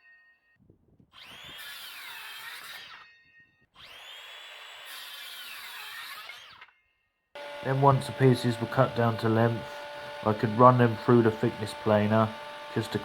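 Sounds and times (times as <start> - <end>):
circular saw cutting wood: 1.1 - 6.8, 7.4 - 13.0.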